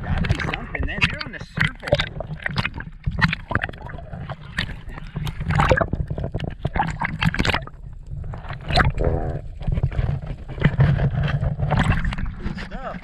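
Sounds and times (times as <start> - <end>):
knocks and splashes: 0.0 - 9.0, 9.7 - 13.0
water sloshing and gurgling: 0.0 - 13.0.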